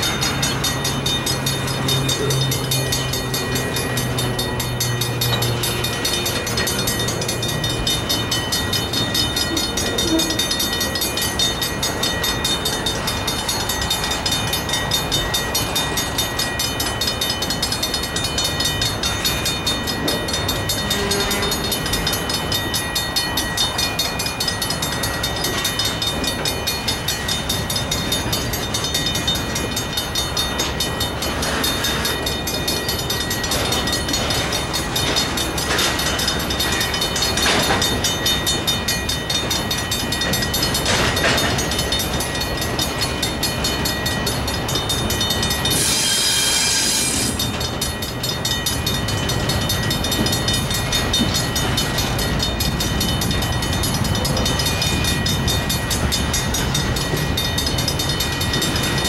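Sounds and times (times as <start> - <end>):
crossing bells ringing: 0.0 - 59.0
train wheels clicking on rail joints: 0.0 - 59.0.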